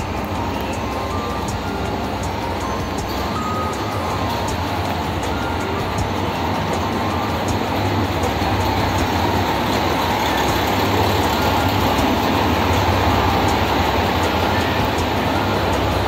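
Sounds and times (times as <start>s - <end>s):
diesel train engine hum: 0.0s - 16.0s
train wheel noise: 0.0s - 16.0s.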